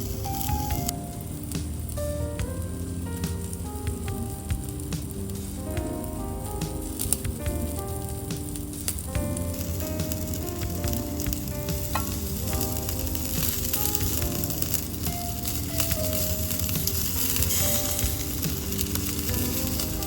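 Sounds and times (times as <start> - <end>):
fat crackling and popping: 0.0 - 20.0
skewers sizzling on a grill: 0.0 - 20.0
soft background music: 0.0 - 20.0.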